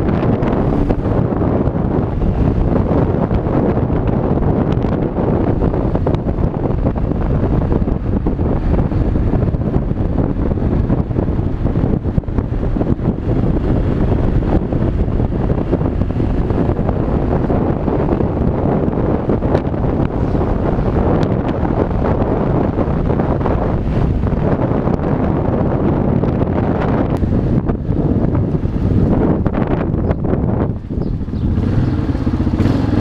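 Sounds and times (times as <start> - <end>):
motorcycle engine running: 0.0 - 33.0
wind noise on microphone: 0.0 - 33.0.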